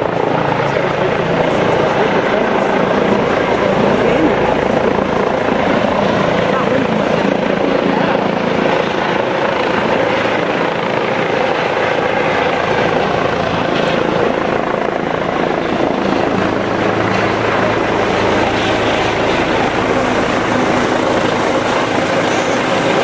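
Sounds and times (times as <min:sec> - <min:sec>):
helicopter rotor and turbine: 0:00.0 - 0:23.0.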